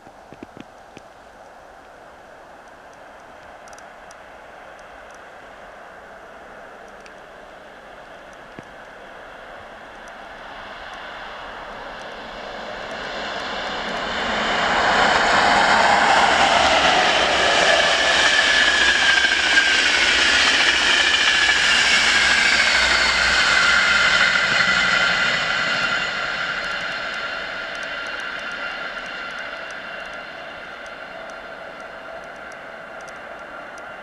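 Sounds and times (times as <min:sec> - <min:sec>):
electric train passing at speed: 0:01.2 - 0:34.0.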